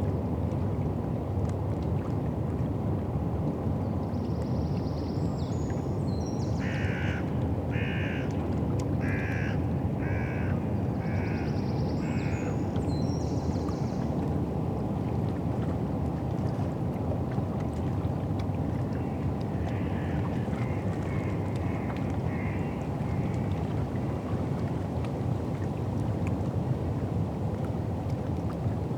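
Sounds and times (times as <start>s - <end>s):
low rumble of river and wind: 0.0s - 28.9s.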